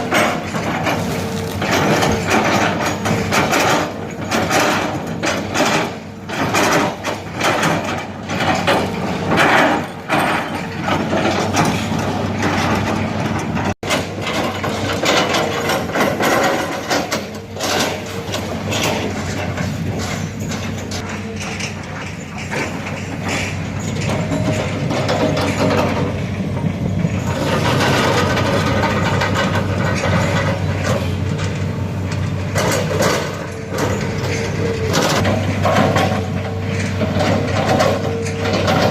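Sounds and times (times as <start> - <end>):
excavator diesel engine: 0.0 - 38.9
metal knocks and clanks: 0.0 - 38.9.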